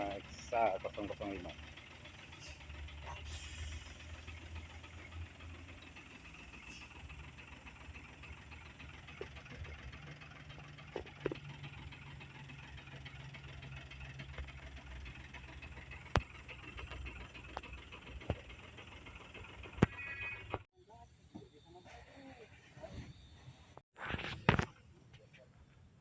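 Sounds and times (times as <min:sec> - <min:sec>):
engine idling: 0:00.0 - 0:23.8.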